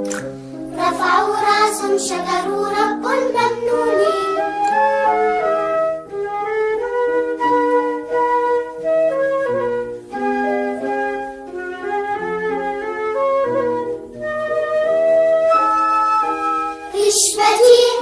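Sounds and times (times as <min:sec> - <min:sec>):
flute-like melody: 0:00.7 - 0:18.0.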